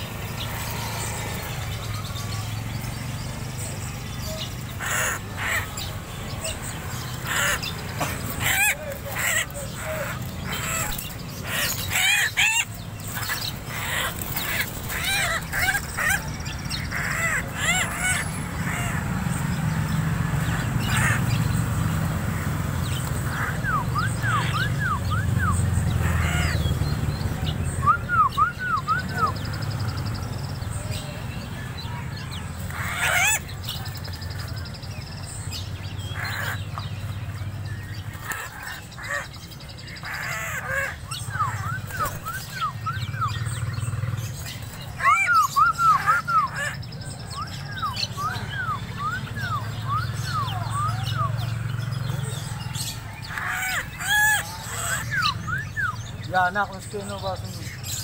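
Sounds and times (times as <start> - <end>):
bird harsh calls: 0.0 - 58.0.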